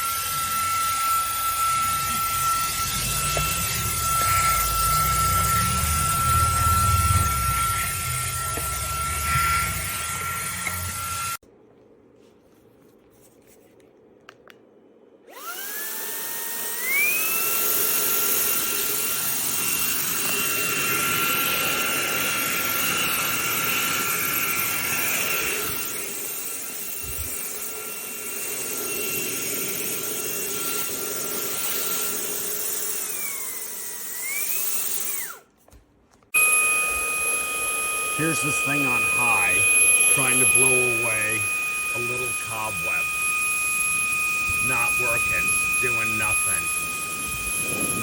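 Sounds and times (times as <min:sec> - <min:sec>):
handheld vacuum motor whine: 0:00.0 - 0:11.4, 0:15.2 - 0:48.0.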